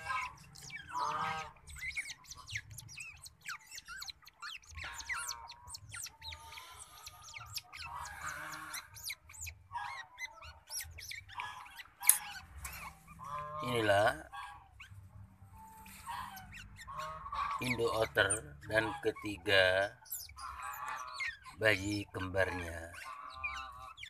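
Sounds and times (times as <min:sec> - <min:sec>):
otter pups squeaking: 0:00.0 - 0:24.0.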